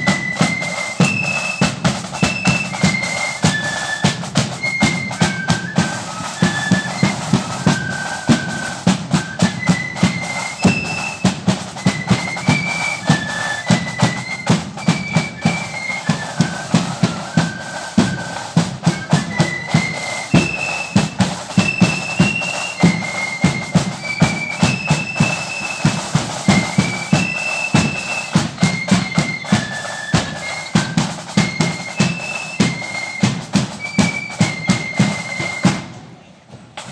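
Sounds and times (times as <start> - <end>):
snare and bass drum beat: 0.0 - 36.0
high flute melody: 0.0 - 36.4.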